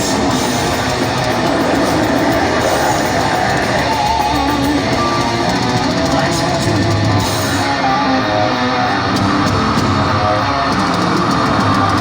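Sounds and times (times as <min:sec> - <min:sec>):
metal band playing: 0:00.0 - 0:12.0.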